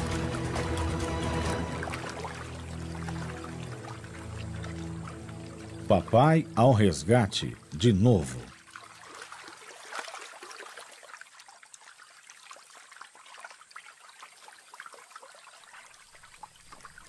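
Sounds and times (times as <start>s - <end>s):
trickling and splashing water: 0.0s - 6.6s, 8.4s - 17.0s.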